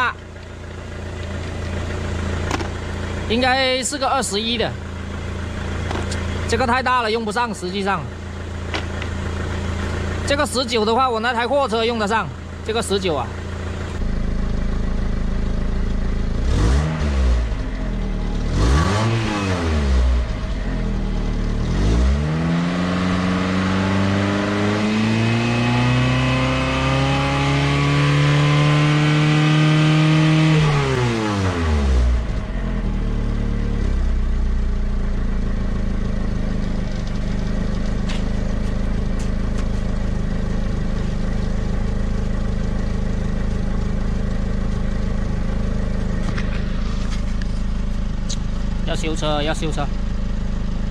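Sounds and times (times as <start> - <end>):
car engine revving and idling: 0.0 - 50.9.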